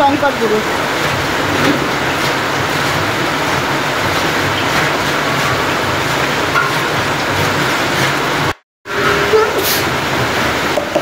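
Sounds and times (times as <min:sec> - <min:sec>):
frying in big pans: 0:00.0 - 0:11.0.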